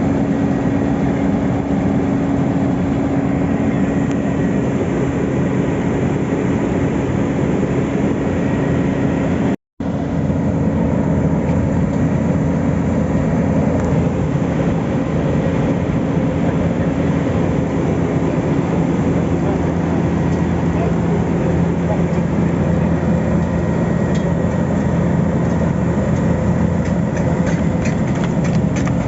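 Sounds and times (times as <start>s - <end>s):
diesel paving machinery drone: 0.0s - 29.0s.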